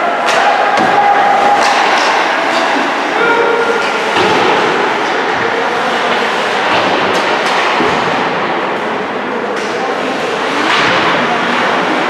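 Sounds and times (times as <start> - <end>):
ice hockey rink din: 0.0 - 12.0.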